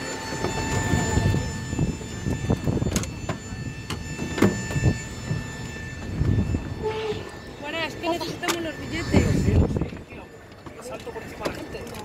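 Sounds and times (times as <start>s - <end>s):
steady high whine: 0.0s - 12.0s.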